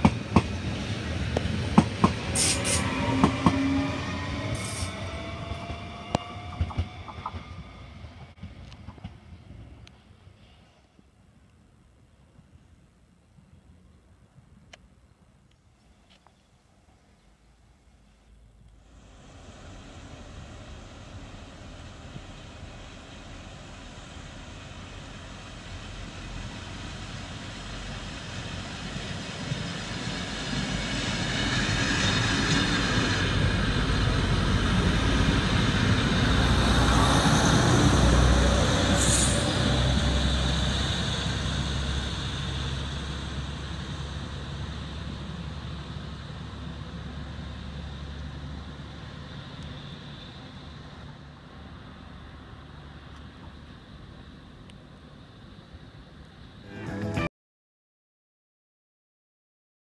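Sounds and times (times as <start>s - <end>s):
diesel railcar passing: 0.0s - 10.9s, 16.8s - 57.3s.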